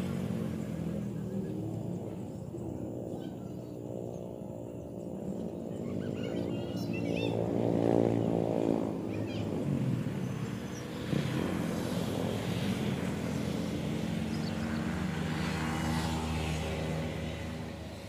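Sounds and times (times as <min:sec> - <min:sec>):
motor engine droning: 0:00.0 - 0:18.0.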